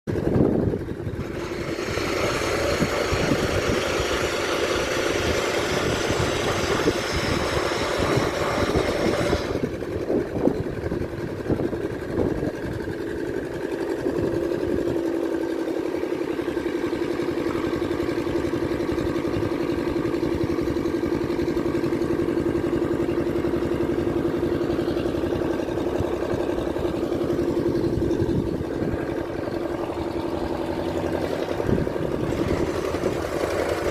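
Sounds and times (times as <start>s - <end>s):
engine running: 0.1s - 33.9s.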